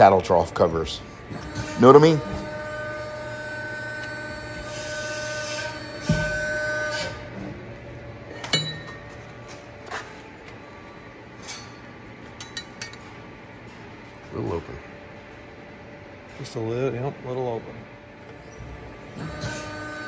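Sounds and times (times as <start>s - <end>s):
hydraulic hum and whine: 0.0s - 20.0s.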